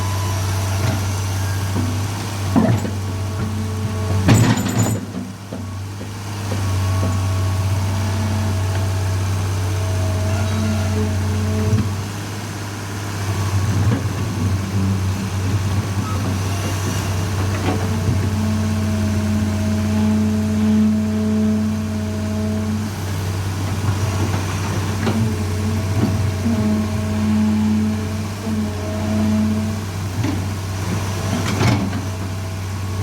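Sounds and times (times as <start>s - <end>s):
excavator engine idling: 0.0s - 33.0s.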